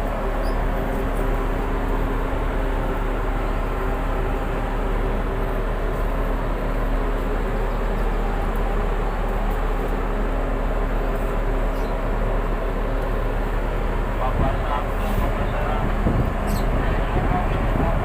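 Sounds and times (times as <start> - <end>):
diesel engines droning: 0.0 - 18.0.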